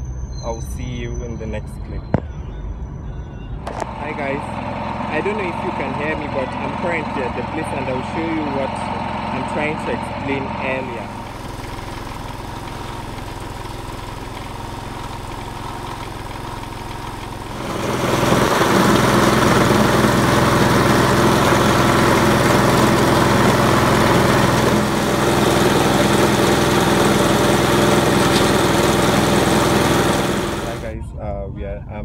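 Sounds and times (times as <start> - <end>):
grinding mill engine drone: 0.0 - 31.4.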